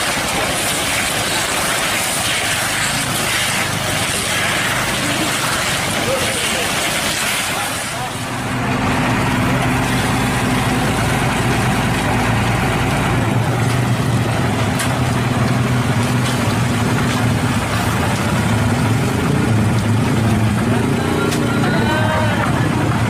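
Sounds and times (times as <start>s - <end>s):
heavy vehicle engine idling: 3.8s - 23.0s.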